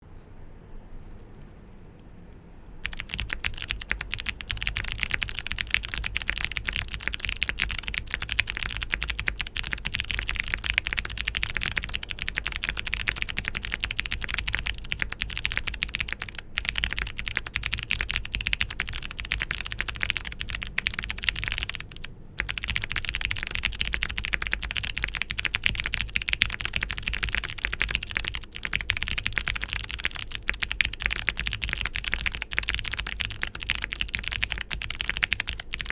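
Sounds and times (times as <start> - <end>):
mechanical keyboard typing: 2.8 - 35.9.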